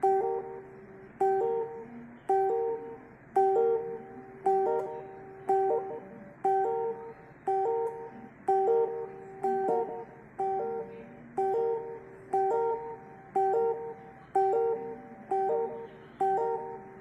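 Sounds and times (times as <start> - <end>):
plucked string instrument loop: 0.0 - 17.0.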